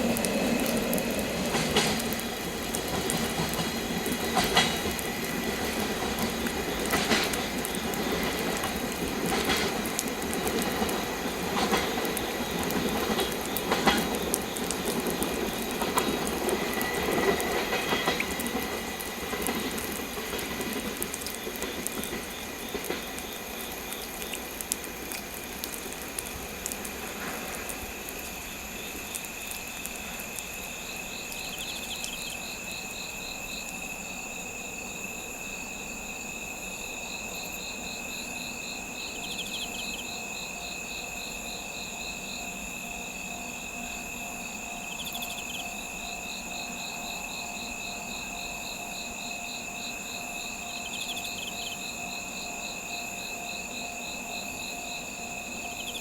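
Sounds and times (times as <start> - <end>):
crickets chirping: 0.0 - 56.0
freight train rumbling: 0.0 - 56.0.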